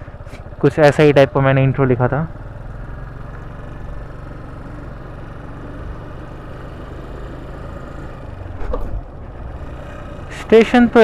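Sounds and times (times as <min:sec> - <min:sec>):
motorcycle engine hum: 0:00.0 - 0:11.0
road noise rushing: 0:00.0 - 0:11.0.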